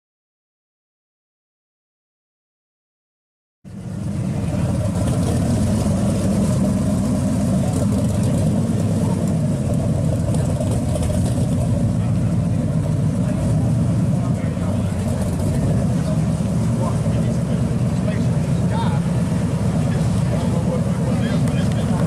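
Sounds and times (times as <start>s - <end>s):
car engine idling with deep exhaust rumble: 3.7s - 22.0s.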